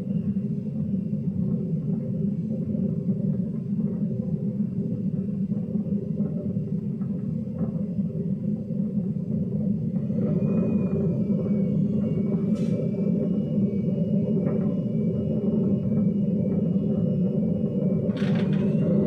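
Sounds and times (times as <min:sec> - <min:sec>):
washing machine low rumble: 0:00.0 - 0:19.0.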